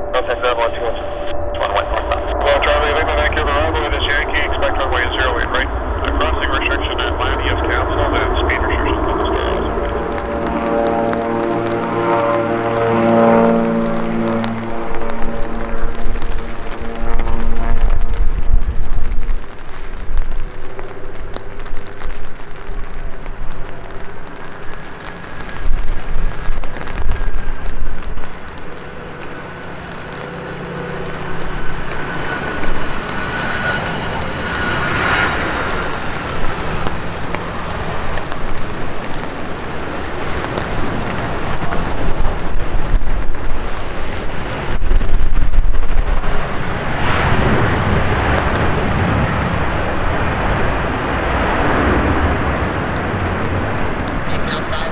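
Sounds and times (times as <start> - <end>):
high engine whine: 0.0 - 54.9
jet engines on approach: 0.0 - 54.9.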